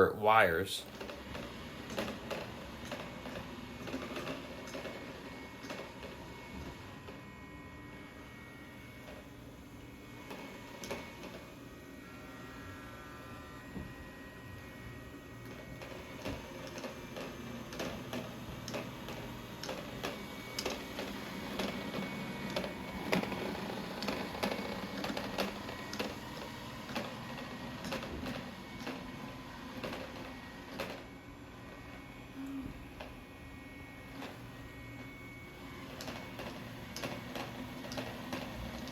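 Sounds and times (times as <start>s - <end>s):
robot vacuum motor hum: 0.8s - 38.9s.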